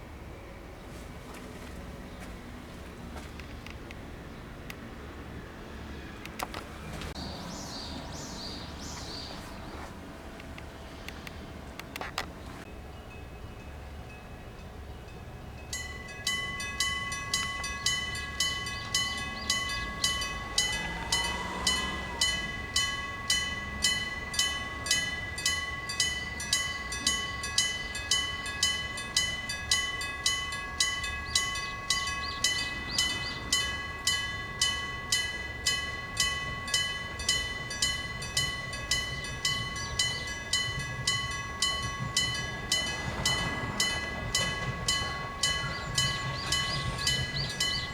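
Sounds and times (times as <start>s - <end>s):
level crossing warning bell: 7.1s - 47.9s.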